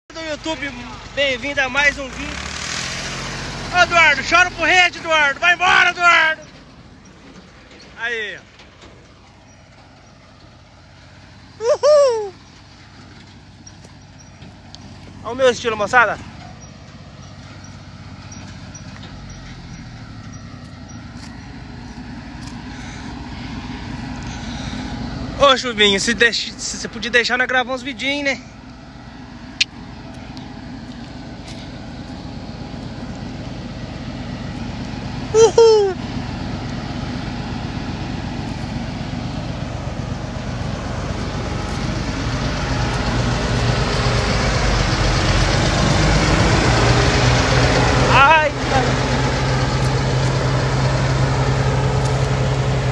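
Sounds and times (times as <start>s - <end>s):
farm machinery engine running: 0.1s - 11.6s, 12.4s - 52.9s.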